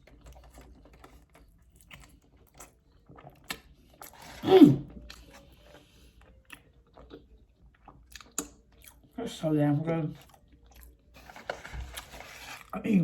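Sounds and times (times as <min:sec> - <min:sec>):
person chewing: 0:00.0 - 0:09.1, 0:10.1 - 0:12.7.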